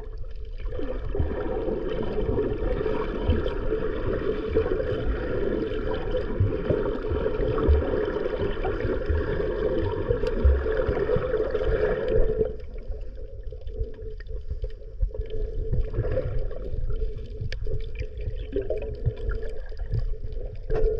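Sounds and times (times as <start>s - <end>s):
muffled underwater water noise: 0.0s - 20.9s.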